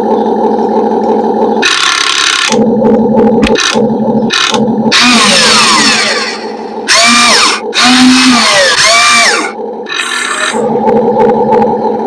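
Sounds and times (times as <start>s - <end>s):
electric motors whining: 0.0s - 12.0s
steady hum: 0.0s - 12.0s.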